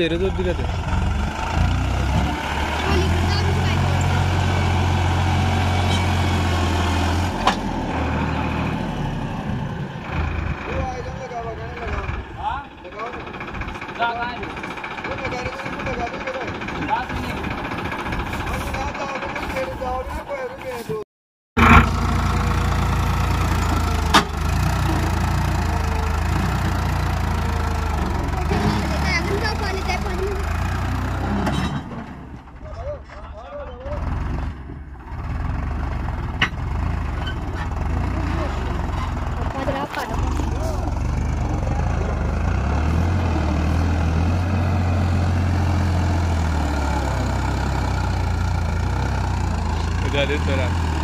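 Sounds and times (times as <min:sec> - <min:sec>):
tractor diesel engine idling: 0:06.4 - 0:20.1, 0:21.6 - 0:31.3, 0:32.2 - 0:51.0.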